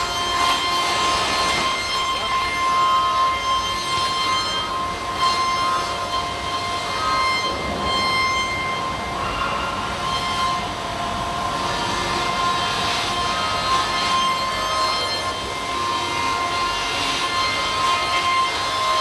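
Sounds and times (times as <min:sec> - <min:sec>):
milling machine cutting whine: 0:00.0 - 0:19.0.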